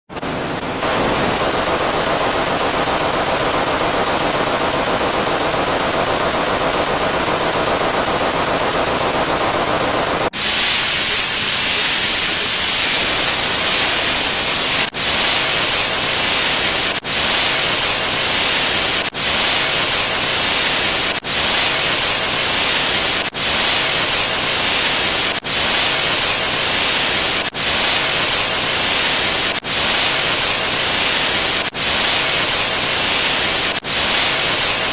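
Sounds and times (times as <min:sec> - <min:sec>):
static hiss: 0:00.1 - 0:34.9.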